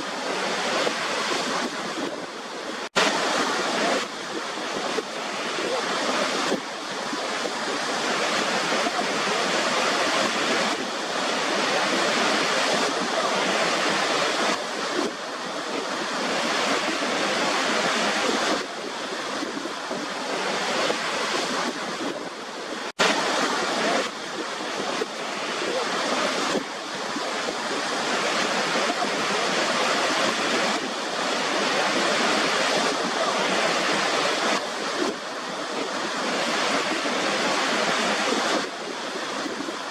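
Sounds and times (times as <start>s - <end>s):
waterfall rushing water: 0.0s - 39.9s.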